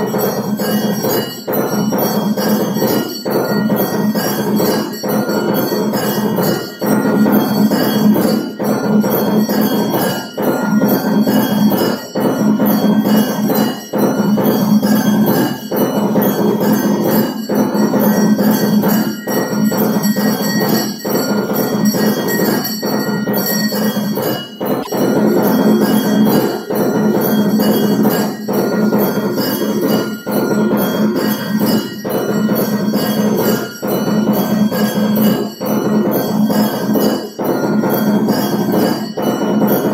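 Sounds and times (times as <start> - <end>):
temple bells clanging: 0.0 - 39.9.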